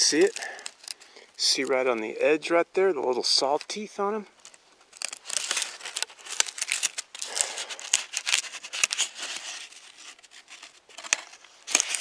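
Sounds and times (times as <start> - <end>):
dry leaf crinkling in fingers: 0.0 - 2.1, 4.4 - 12.0.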